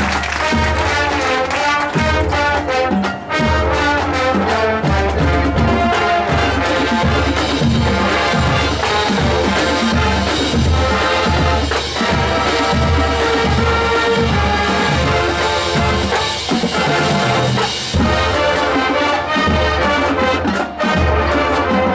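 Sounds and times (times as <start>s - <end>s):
brass holding chords: 0.0s - 21.9s.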